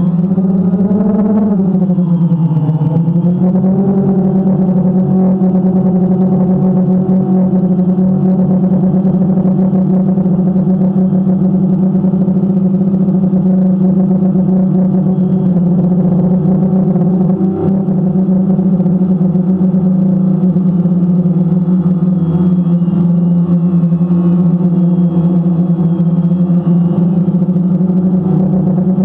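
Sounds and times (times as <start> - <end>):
engine humming steadily: 0.0 - 29.0.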